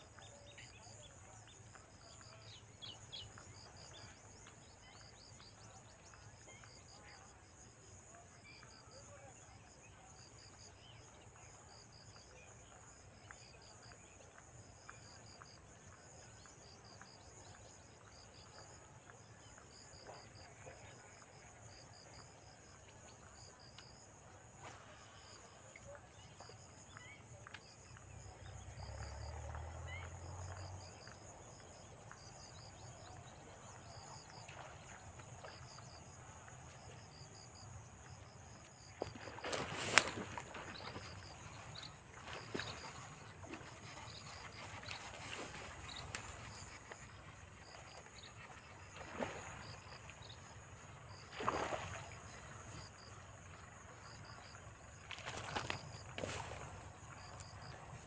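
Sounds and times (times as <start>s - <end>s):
crickets and insects chorus: 0.1s - 58.0s.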